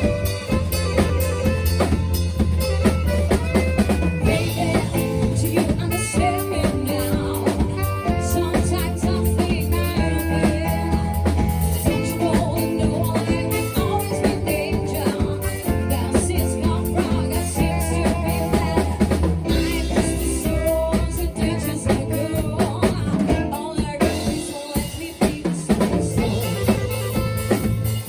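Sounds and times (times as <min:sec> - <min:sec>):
drum kit beat: 0:00.0 - 0:28.0
live band playing: 0:00.0 - 0:28.0
person singing: 0:04.2 - 0:27.9.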